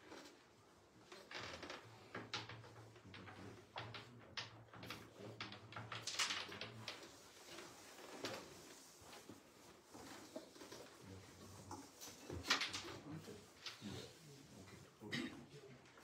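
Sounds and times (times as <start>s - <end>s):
carrom pieces clacking: 0.1s - 11.0s, 11.7s - 13.9s.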